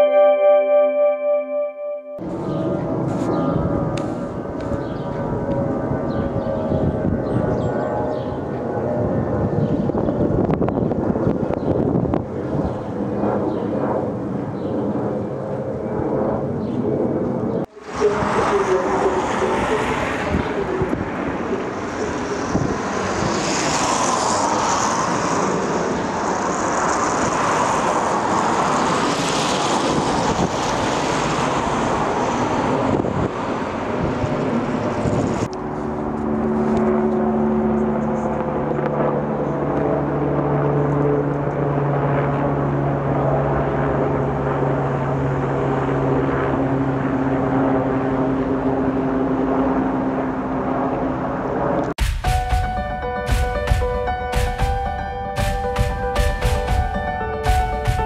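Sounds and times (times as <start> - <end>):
helicopter flying past: 2.2 - 51.9
jet airliner roaring overhead: 2.2 - 52.0.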